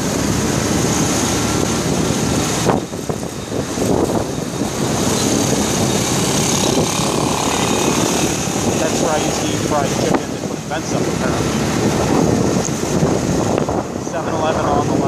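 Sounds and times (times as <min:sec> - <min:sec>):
motorcycle engine: 0:00.0 - 0:14.1
traffic: 0:00.0 - 0:15.0
wind buffeting microphone: 0:00.0 - 0:15.0.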